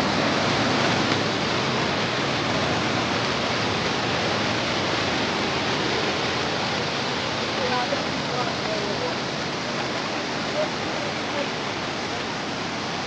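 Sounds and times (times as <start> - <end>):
floodwater rushing over road: 0.0 - 13.0.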